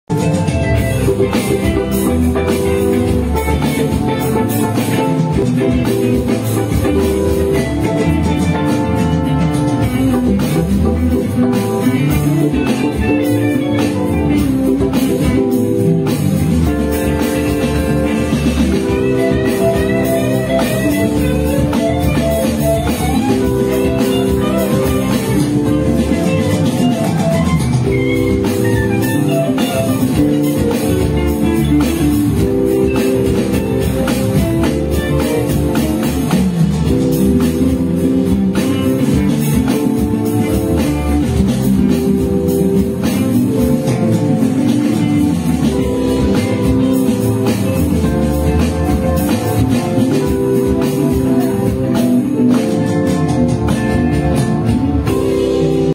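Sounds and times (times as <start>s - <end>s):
jazz-rock band playing: 0.0s - 55.9s
electronic drum kit: 0.1s - 55.9s
melodic lead line: 0.1s - 55.9s.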